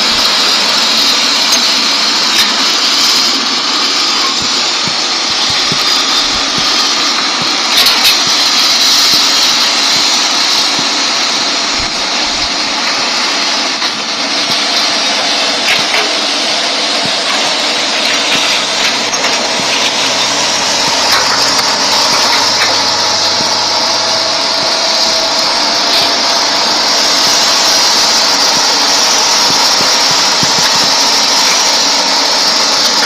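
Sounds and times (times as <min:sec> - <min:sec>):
excavator engine running: 0:00.0 - 0:33.0.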